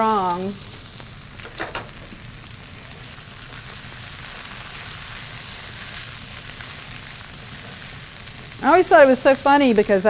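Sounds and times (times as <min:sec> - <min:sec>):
mushrooms sizzling in oil: 0:00.0 - 0:10.0.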